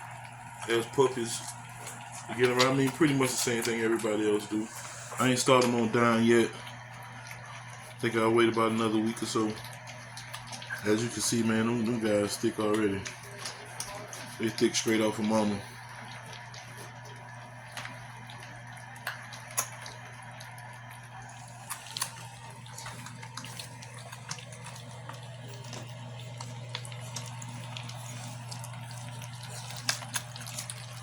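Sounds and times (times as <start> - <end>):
puppies lapping food: 0.0 - 31.0.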